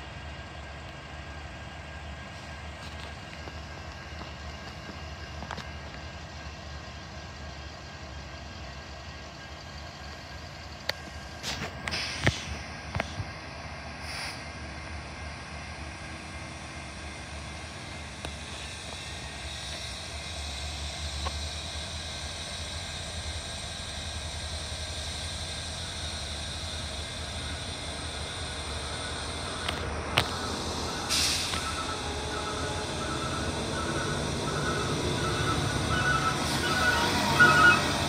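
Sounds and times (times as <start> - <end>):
diesel locomotive rumbling: 0.0 - 38.0.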